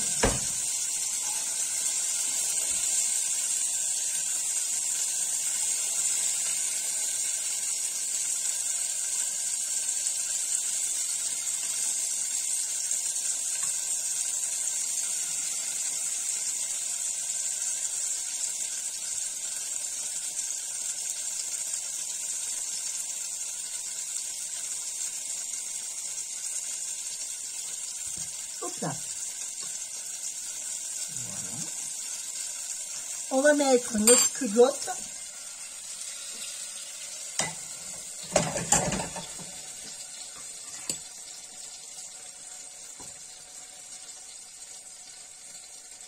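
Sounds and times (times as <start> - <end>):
gas hob burner hissing: 0.0 - 46.0.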